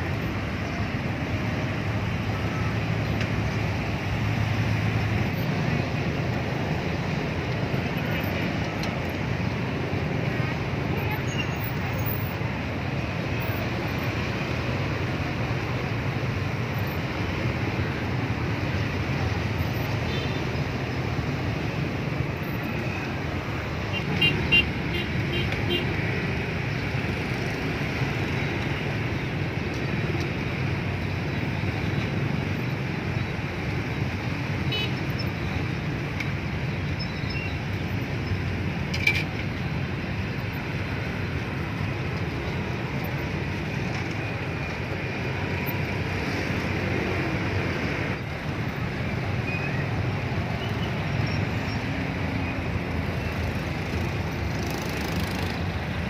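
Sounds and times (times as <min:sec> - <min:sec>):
street traffic noise: 0:00.0 - 0:56.0.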